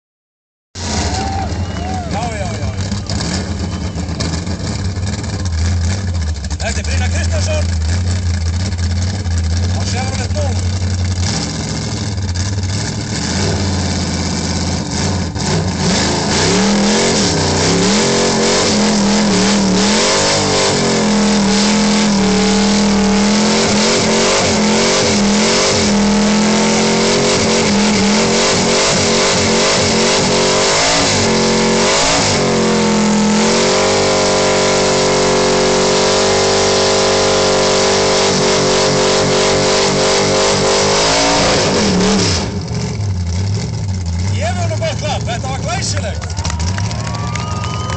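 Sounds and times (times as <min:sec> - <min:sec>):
car engine revving hard: 0:00.8 - 0:47.9.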